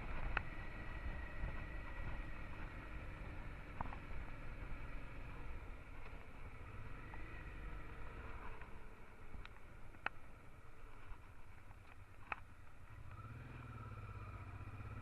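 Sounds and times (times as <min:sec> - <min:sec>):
motorcycle engine rumbling: 0:00.0 - 0:15.0
wind and road noise: 0:00.0 - 0:15.0.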